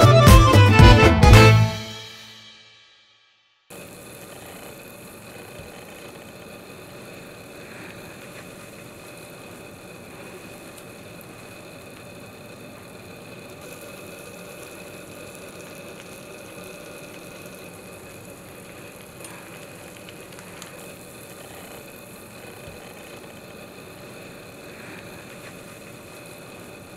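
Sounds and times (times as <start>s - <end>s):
sandwich sizzling in a skillet: 3.7s - 26.9s.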